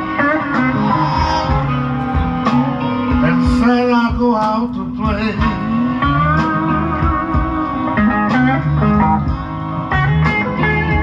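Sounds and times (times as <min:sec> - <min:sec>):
bass and drums: 0:00.0 - 0:11.0
electric guitar bent notes: 0:00.0 - 0:11.0.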